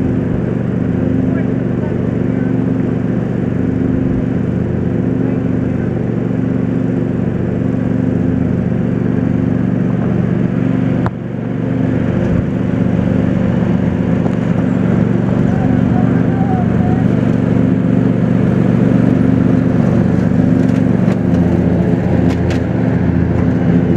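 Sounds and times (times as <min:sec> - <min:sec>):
low machine hum: 0:00.0 - 0:23.9.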